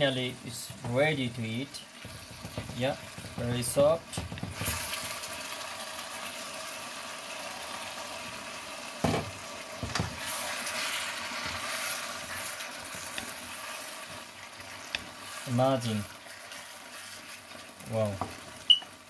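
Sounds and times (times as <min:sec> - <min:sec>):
curry sizzling and bubbling: 0:00.0 - 0:19.0.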